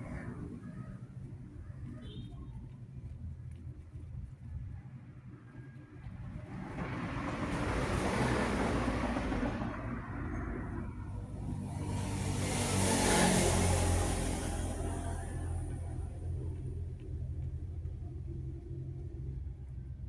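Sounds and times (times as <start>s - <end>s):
road vehicles passing: 0.0s - 2.7s, 6.0s - 20.0s.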